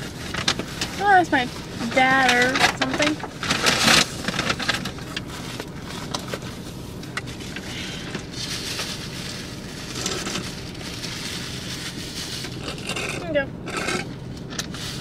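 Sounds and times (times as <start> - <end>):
rustling of packaging: 0.0 - 13.2
low hum in car cabin: 0.0 - 15.0.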